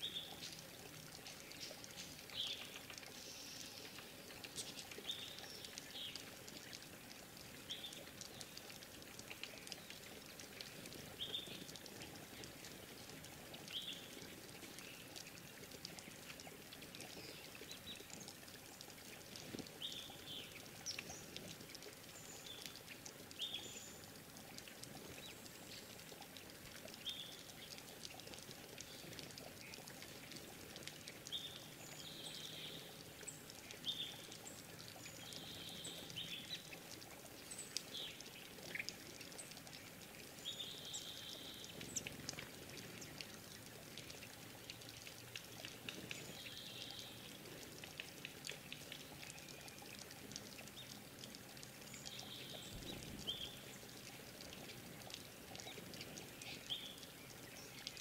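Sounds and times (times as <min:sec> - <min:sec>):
small ticks: 0:00.0 - 0:58.0
water trickling: 0:00.0 - 0:58.0.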